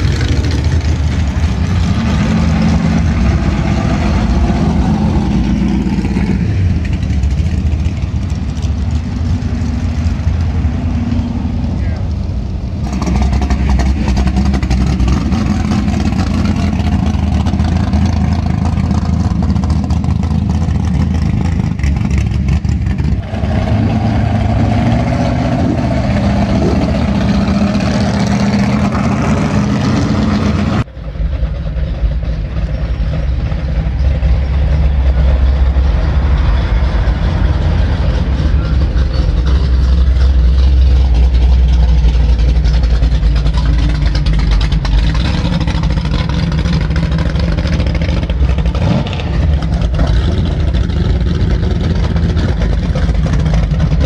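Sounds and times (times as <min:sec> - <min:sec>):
car engines idling: 0:00.0 - 0:54.0.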